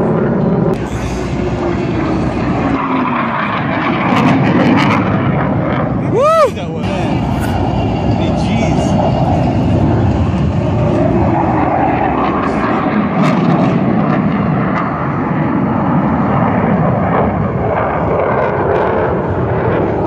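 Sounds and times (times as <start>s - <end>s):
fighter jet flying past: 0.0s - 20.0s.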